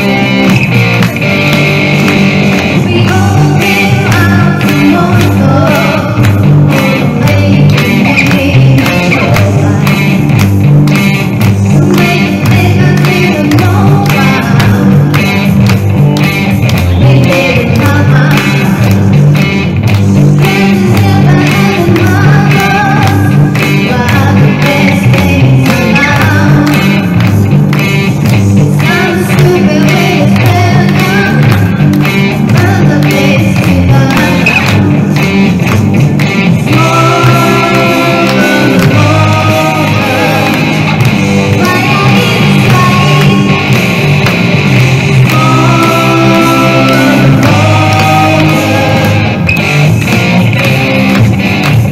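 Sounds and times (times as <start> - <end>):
person singing: 0.0 - 35.2, 36.6 - 51.9
drum and bass beat: 0.0 - 51.9
electric guitar: 0.0 - 51.9.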